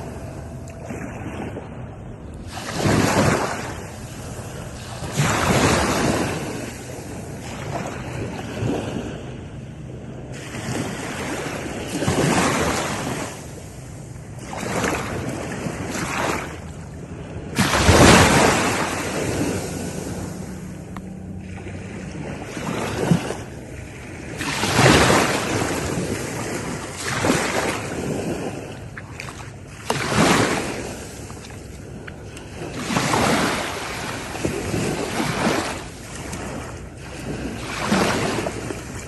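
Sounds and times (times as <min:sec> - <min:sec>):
ocean waves breaking on shore: 0:00.0 - 0:39.0.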